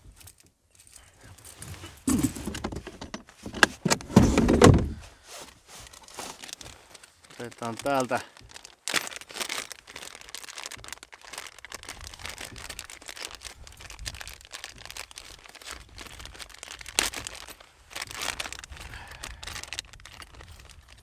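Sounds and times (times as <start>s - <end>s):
rustling and crinkling: 0.0s - 21.0s.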